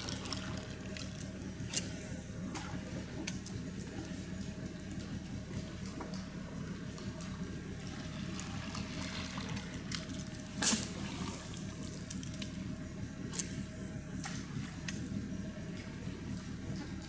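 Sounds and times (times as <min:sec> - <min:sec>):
water drips and splashes: 0:00.0 - 0:12.6, 0:13.3 - 0:15.1
water lapping and trickling: 0:00.0 - 0:17.0.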